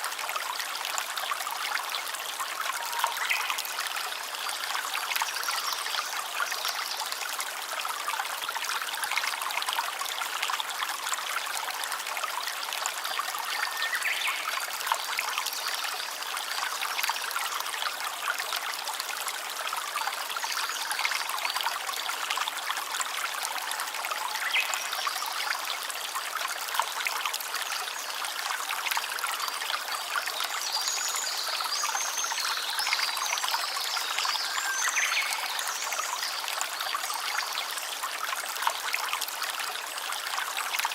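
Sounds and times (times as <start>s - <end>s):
small stream babbling: 0.0s - 40.9s.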